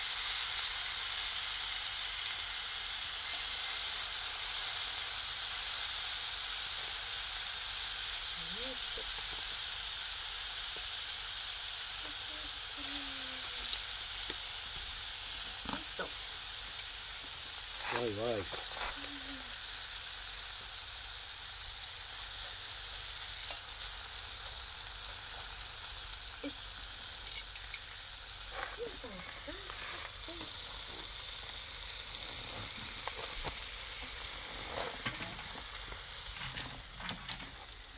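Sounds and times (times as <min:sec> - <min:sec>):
meat sizzling in a skillet: 0:00.0 - 0:37.9.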